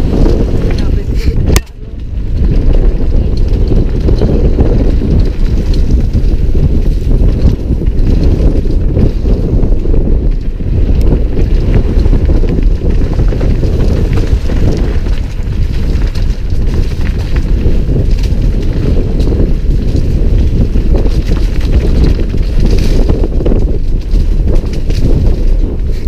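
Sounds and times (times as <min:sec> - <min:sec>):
bike clicks and rattles: 0:00.0 - 0:26.0
wind noise on microphone: 0:00.0 - 0:26.0.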